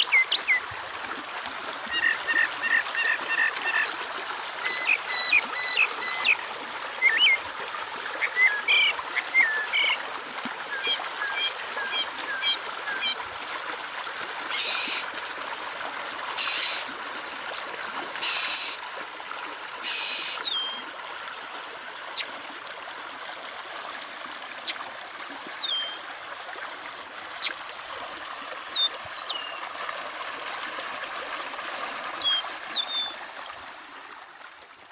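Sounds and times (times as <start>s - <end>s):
water trickling: 0.0s - 34.9s.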